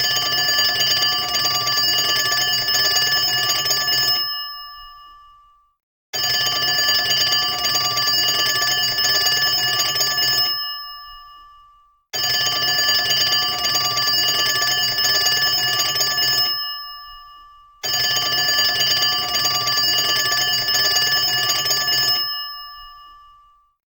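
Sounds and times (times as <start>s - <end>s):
old telephone bell ringing: 0.0s - 23.8s.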